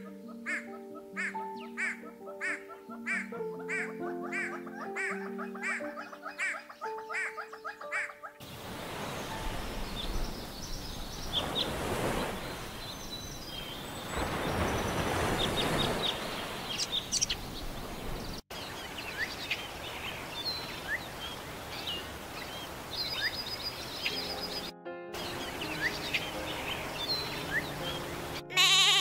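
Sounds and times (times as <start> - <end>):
small birds chirping: 0.0 - 28.4.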